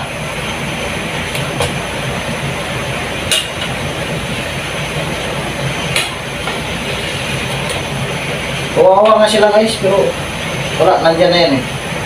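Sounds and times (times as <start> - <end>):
stovetop cooking hiss: 0.0 - 12.0.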